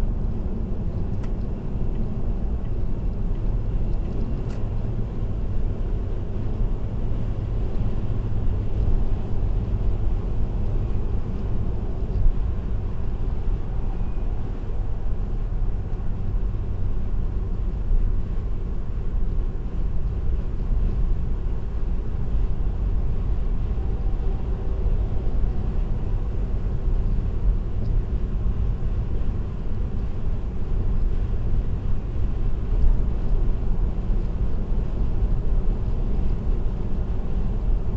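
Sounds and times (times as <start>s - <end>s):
car engine hum: 0.0s - 37.9s.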